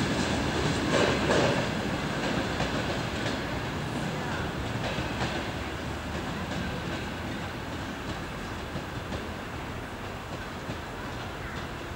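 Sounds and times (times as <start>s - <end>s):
train coaches rolling over tracks: 0.0s - 11.9s.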